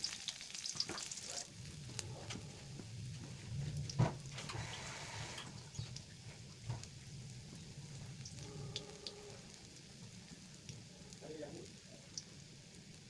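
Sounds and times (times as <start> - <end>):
crackles and pops of frying: 0.0 - 13.0
garlic sizzling in a wok: 0.0 - 13.0.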